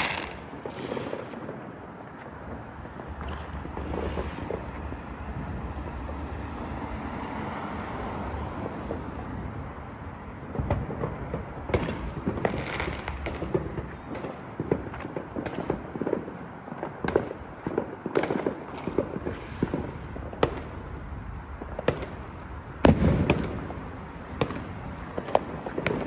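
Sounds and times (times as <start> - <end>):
fireworks cracks and pops: 0.0 - 6.3, 10.4 - 26.0
fireworks rumbling hiss: 0.0 - 26.0.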